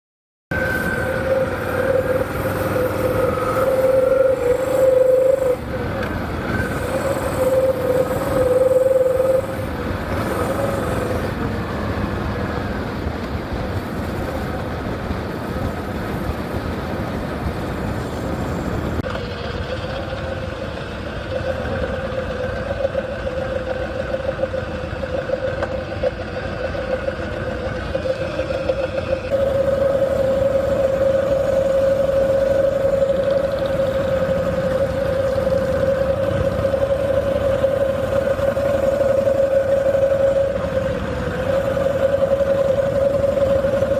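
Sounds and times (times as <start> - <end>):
motorcycle engine whining: 0.5 - 43.9.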